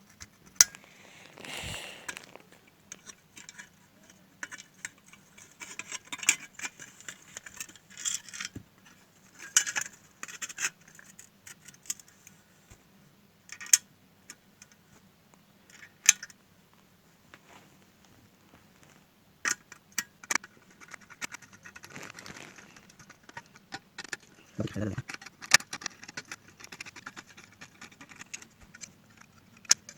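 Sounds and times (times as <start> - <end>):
small metallic clicks and scrapes: 0.0 - 12.8, 13.5 - 14.9, 15.7 - 16.4, 19.4 - 29.9.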